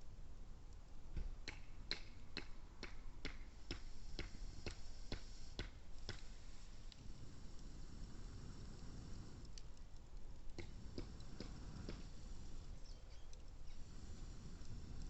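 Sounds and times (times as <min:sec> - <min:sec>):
campfire crackling and popping: 0:00.6 - 0:15.0.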